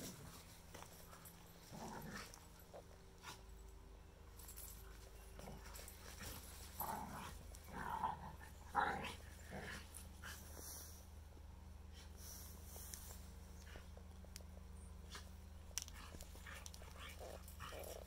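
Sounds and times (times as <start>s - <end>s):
dogs play-fighting: 0.0s - 11.0s, 11.8s - 18.0s.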